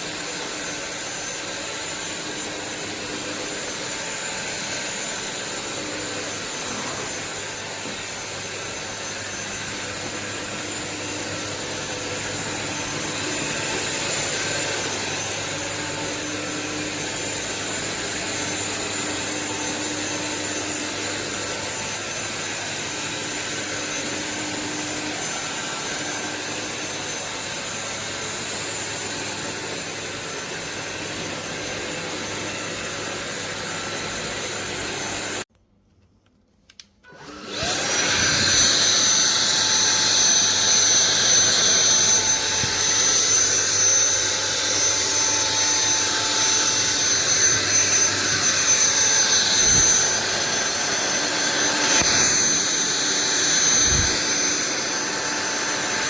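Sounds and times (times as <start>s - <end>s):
stick vacuum motor whine: 0.0s - 35.4s, 37.0s - 56.0s.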